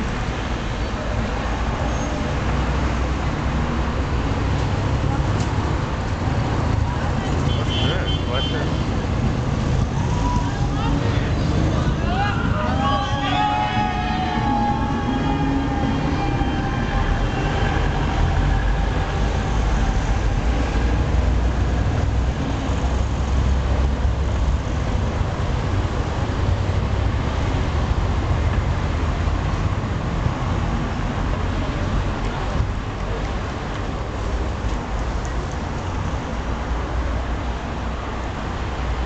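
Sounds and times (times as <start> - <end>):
street traffic passing: 0.0 - 39.0.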